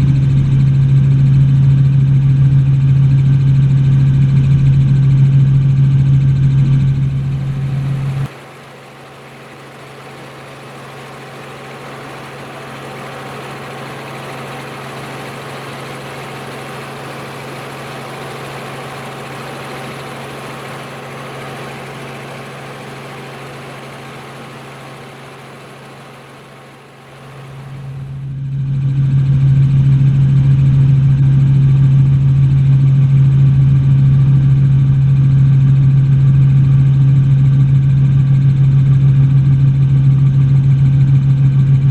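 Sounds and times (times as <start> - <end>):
helicopter drone: 0.1 - 41.8.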